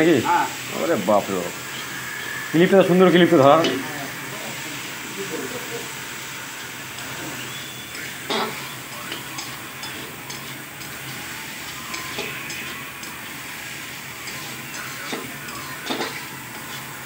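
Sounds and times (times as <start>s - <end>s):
tomatoes sizzling in oil: 0.0s - 17.0s.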